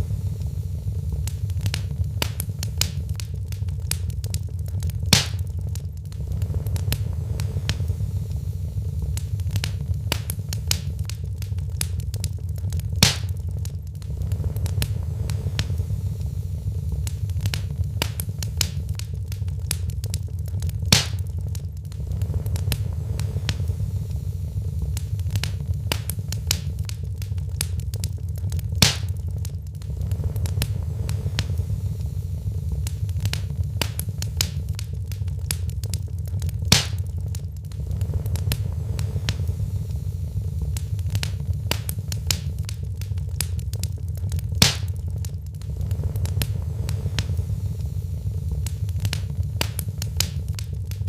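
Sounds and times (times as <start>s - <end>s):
fire popping: 0.0s - 51.0s
low rumble: 0.0s - 51.0s
wood fire crackling: 0.0s - 51.0s.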